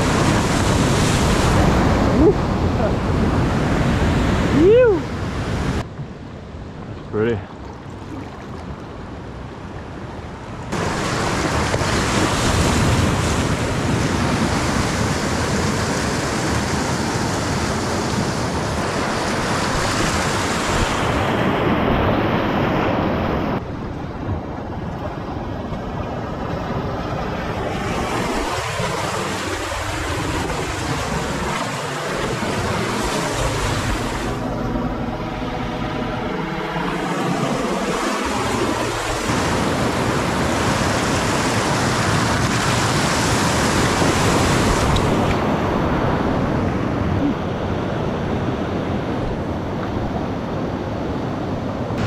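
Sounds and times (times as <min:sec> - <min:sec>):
whitewater rushing and splashing: 0:00.0 - 0:05.9, 0:10.6 - 0:51.1.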